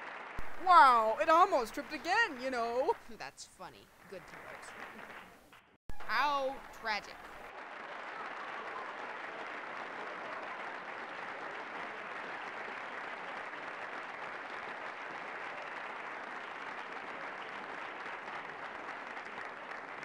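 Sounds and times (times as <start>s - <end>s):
large crowd applauding: 0.0s - 3.2s, 4.1s - 20.0s.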